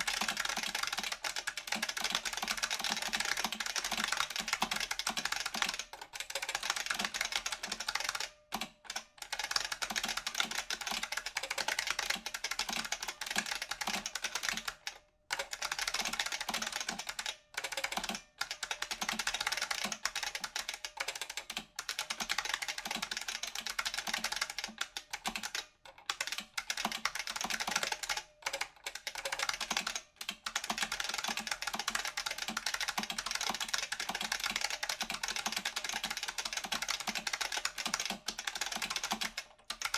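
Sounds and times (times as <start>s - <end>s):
fast typing on clacky keyboard: 0.0s - 39.9s.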